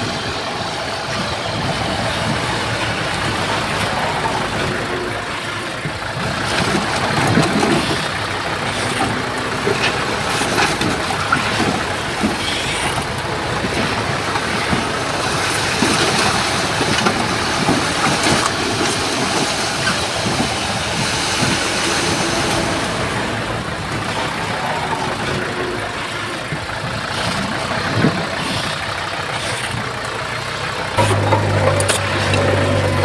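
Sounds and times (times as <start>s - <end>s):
diesel earthmoving machinery running: 0.0s - 33.0s.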